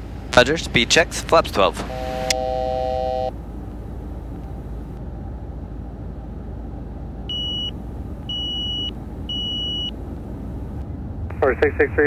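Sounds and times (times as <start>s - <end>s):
jet cockpit noise: 0.0s - 5.1s, 5.7s - 12.0s
low steady tone: 1.8s - 12.0s.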